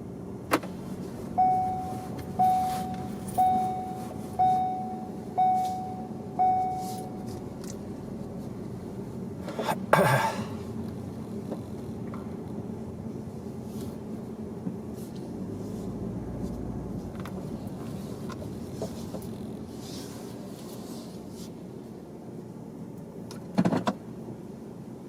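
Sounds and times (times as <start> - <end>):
car engine hum inside cabin: 0.0 - 25.0.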